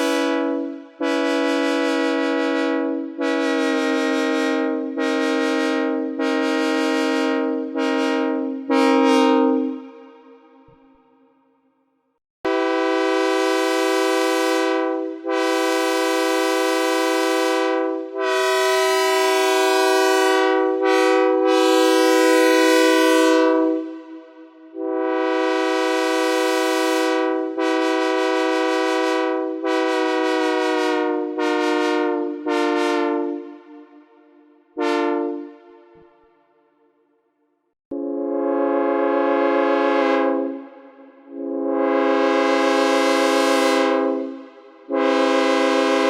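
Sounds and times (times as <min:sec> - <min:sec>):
synthesized locomotive horn blasts: 0:00.0 - 0:11.8, 0:12.4 - 0:37.0, 0:37.9 - 0:46.0.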